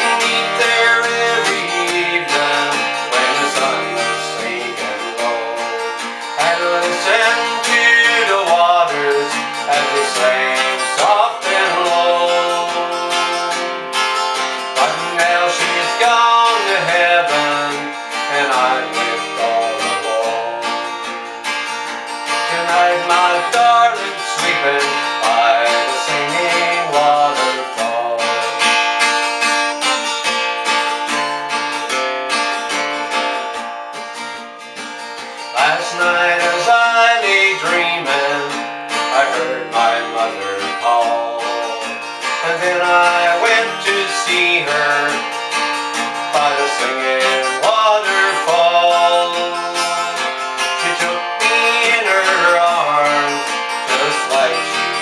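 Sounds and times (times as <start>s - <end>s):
man singing: 0.0s - 21.1s, 22.3s - 29.1s, 35.5s - 55.0s
acoustic guitar strumming: 0.0s - 55.0s.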